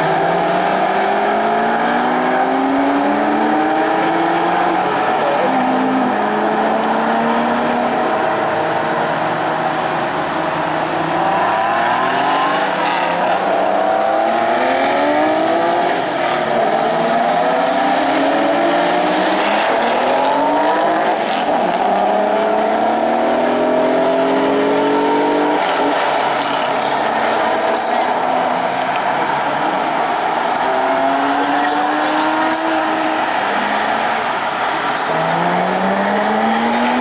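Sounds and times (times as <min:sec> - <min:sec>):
sports car engines revving: 0:00.0 - 0:37.0.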